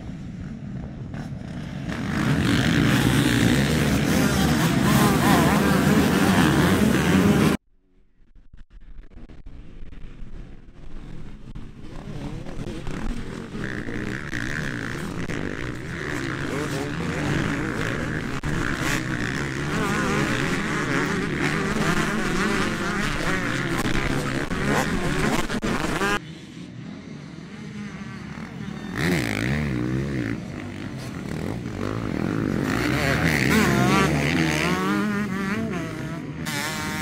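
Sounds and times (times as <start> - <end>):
motocross bikes revving: 1.1 - 7.6, 11.1 - 37.0.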